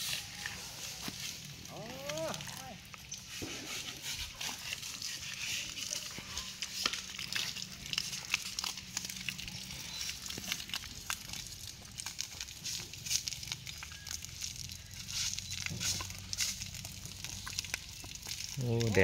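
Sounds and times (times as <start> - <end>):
water splashing from hose: 0.0 - 19.0.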